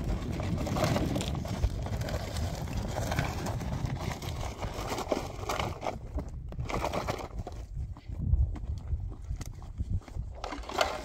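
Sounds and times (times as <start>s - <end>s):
stones and gravel crunching: 0.0s - 11.0s
wind rumbling on microphone: 0.0s - 11.0s.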